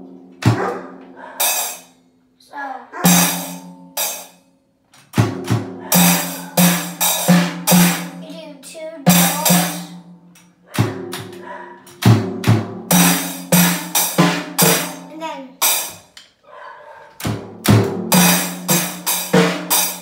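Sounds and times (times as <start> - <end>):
drum kit beat: 0.0 - 2.0, 3.1 - 4.4, 5.1 - 16.2, 17.2 - 20.0.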